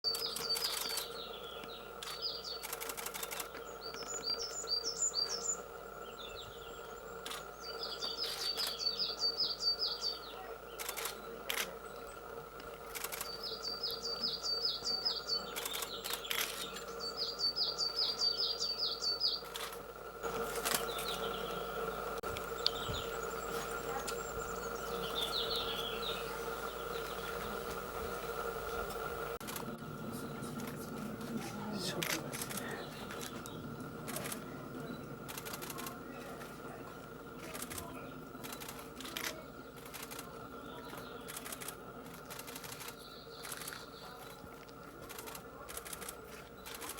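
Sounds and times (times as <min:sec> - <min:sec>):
small songbird singing: 0:00.0 - 0:27.7, 0:31.7 - 0:46.9
faint steady hum: 0:00.1 - 0:46.9.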